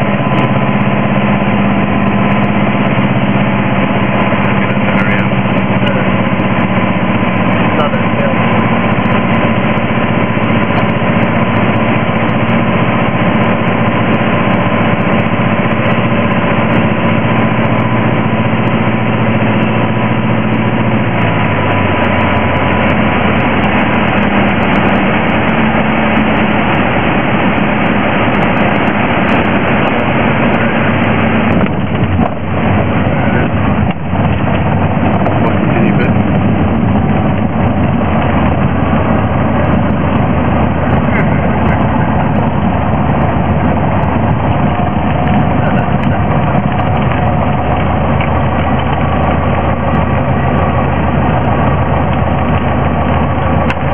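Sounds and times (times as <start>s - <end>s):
aircraft engine and propeller: 0.0s - 53.9s.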